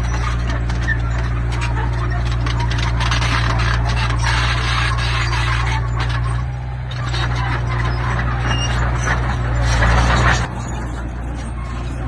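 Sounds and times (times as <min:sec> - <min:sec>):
diesel engine running: 0:00.0 - 0:12.0
grinding rattling scrape: 0:00.0 - 0:12.0.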